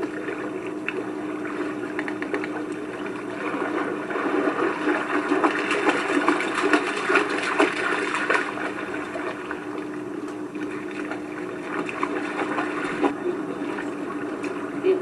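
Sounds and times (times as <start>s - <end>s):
dog splashing through water: 0.0s - 9.8s, 10.6s - 14.6s
steady low hum: 0.0s - 15.0s.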